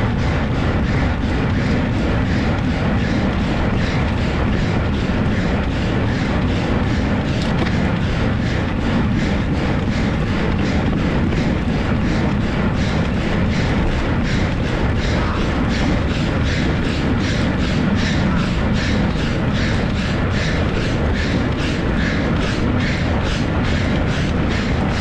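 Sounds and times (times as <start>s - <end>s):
fast heavy breathing: 0.0s - 25.0s
wind buffeting microphone: 0.0s - 25.0s.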